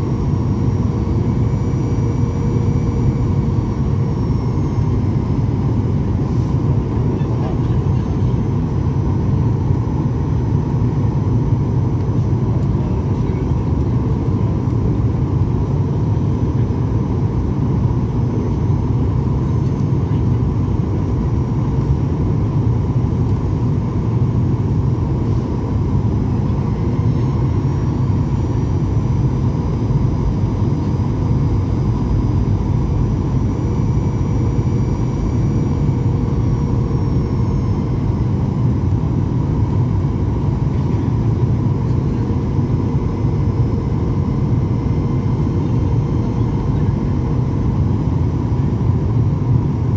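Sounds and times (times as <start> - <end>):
jet engine rumble: 0.0 - 49.9.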